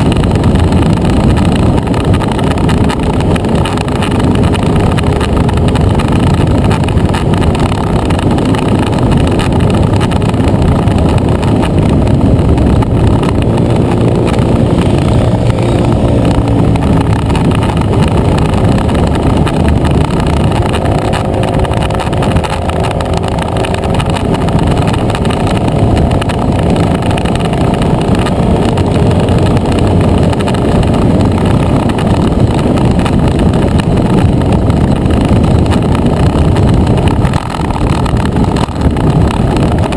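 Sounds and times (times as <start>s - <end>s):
scooter engine running: 0.0s - 39.9s
wind rush over microphone: 0.0s - 39.9s.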